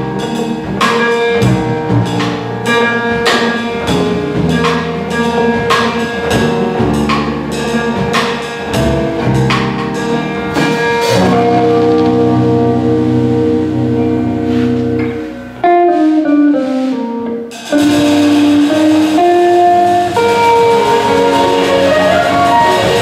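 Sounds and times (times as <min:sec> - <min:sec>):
drum and cymbal hits: 0:00.0 - 0:12.8, 0:15.7 - 0:23.0
double bass: 0:00.0 - 0:23.0
electric guitar: 0:00.0 - 0:23.0
piano: 0:00.0 - 0:23.0.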